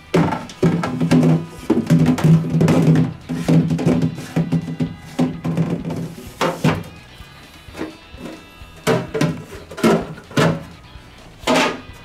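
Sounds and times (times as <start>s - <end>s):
background music with drums: 0.0s - 12.0s.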